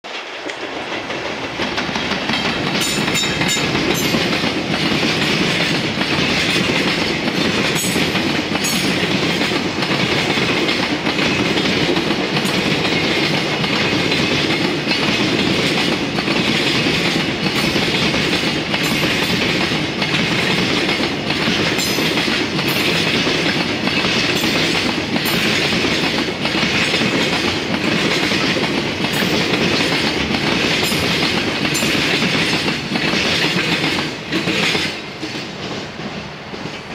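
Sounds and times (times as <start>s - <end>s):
train wheels rumbling on rail: 0.0s - 36.9s
wheels clacking over rail joints: 0.1s - 36.9s.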